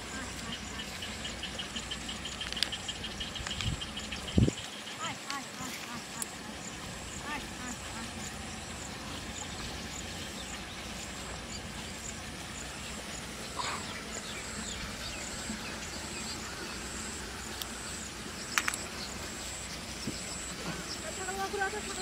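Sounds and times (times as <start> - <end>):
birds calling: 0.0 - 22.0
insects chirping: 0.0 - 22.0.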